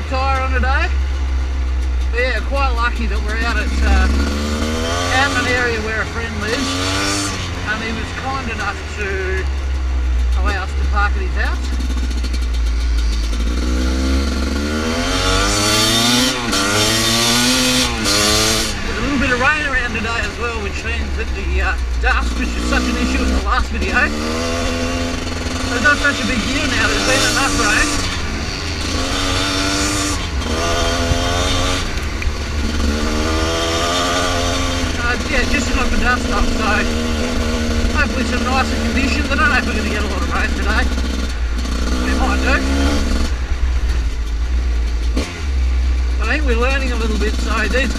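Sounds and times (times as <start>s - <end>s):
dirt bike engine accelerating: 0.0s - 47.9s.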